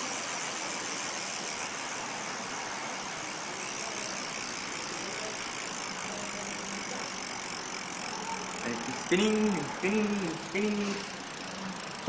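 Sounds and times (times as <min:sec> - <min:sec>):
bicycle wheel spinning on bearings: 0:00.0 - 0:12.0.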